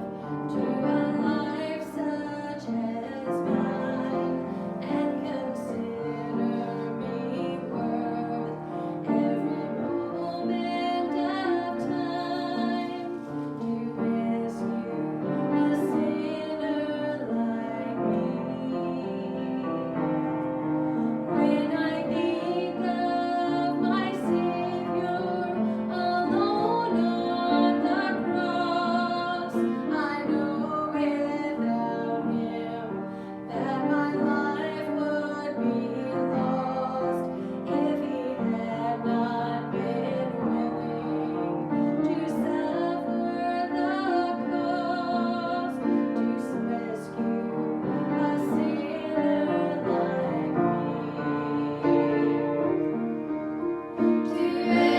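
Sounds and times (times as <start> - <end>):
piano accompaniment: 0.0 - 54.9
voices singing a church song: 0.0 - 54.9.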